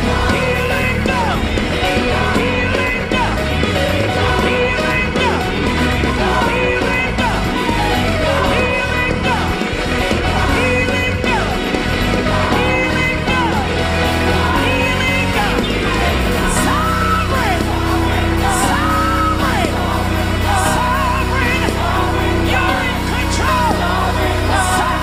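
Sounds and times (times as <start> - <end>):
band with drums and bass: 0.0 - 25.0
singers holding long notes: 0.0 - 25.0.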